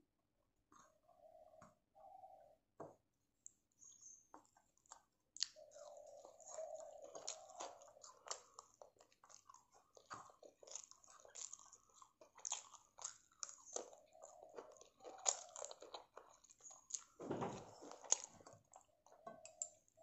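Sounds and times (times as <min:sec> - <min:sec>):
person chewing with crunches: 0:03.8 - 0:20.0.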